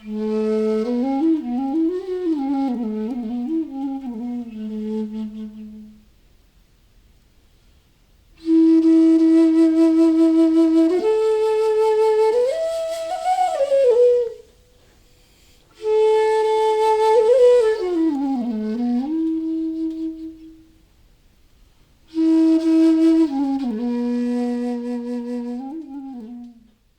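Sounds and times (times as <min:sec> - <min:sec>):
bamboo flute solo: 0:00.0 - 0:06.1, 0:08.4 - 0:20.9, 0:22.0 - 0:26.9.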